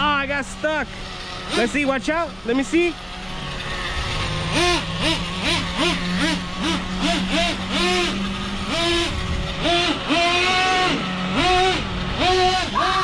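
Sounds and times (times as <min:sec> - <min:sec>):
small engine revving over idle: 0:00.0 - 0:13.0.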